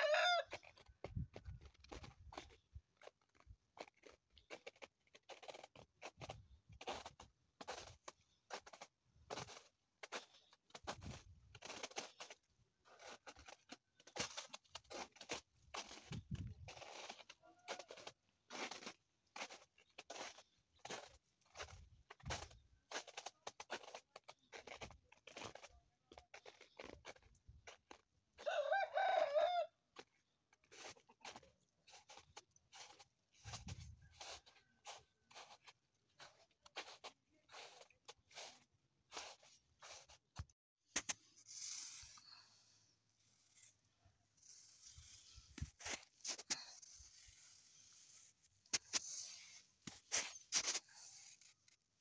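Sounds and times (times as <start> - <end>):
footsteps crunching through snow: 0.0 - 52.0.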